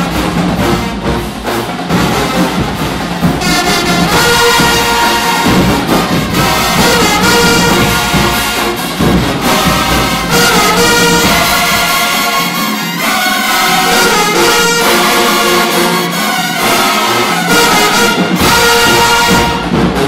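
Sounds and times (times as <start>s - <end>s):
marching band brass playing: 0.0s - 20.0s.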